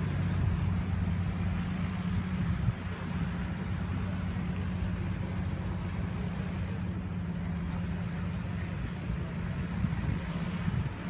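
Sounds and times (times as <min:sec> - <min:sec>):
seaplane engine humming: 0:00.0 - 0:11.0.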